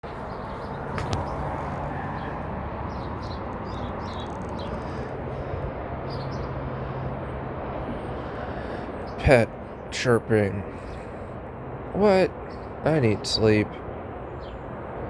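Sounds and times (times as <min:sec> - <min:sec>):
small birds chirping: 0:00.0 - 0:14.9
highway traffic noise: 0:00.0 - 0:15.0.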